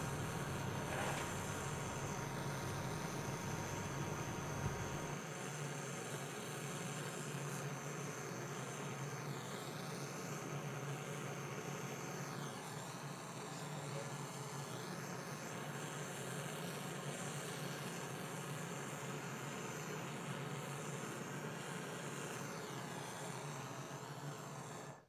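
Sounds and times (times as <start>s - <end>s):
torch flame hissing: 0.0s - 25.0s.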